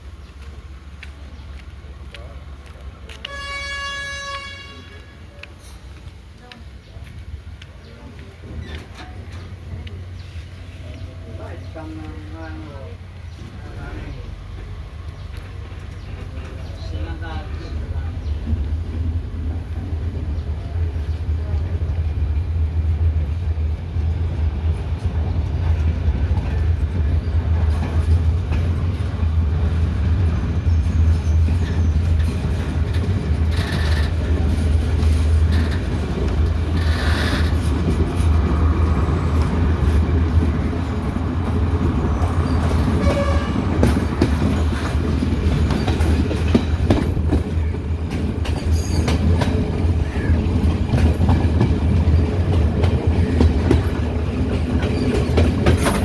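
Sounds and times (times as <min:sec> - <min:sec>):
wheels clacking over rail joints: 0:00.2 - 0:56.0.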